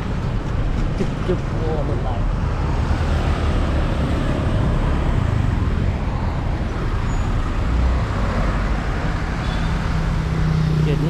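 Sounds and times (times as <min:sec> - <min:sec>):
scooters and trucks passing: 0:00.0 - 0:11.0.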